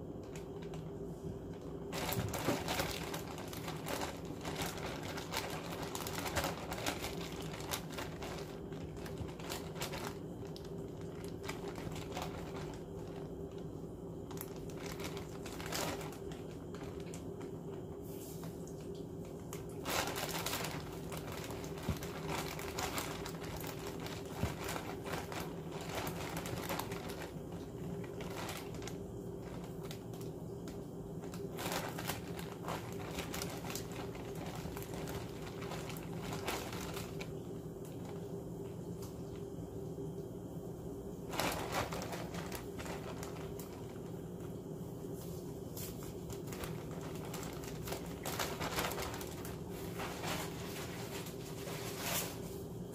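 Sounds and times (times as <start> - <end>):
plastic bag crinkling: 0.0 - 39.6, 41.1 - 52.9
steady low hum: 0.0 - 52.9.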